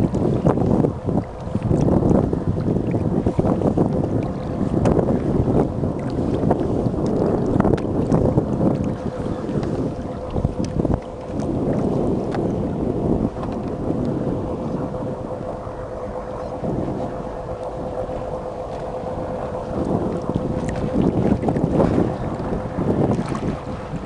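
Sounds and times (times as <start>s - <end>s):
light water splashes: 0.0s - 24.0s
steady hum: 0.0s - 24.0s
water lapping at hull: 0.0s - 24.0s
wind rumbling on microphone: 0.0s - 24.0s.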